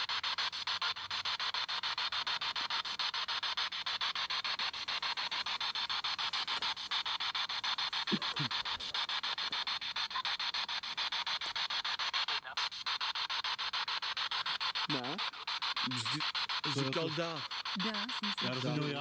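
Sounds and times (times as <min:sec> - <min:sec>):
pulsing radio hiss: 0:00.0 - 0:19.0.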